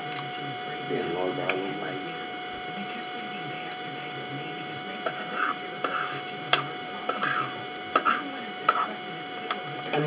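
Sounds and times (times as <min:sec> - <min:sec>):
electrical hum with hiss: 0:00.0 - 0:10.0.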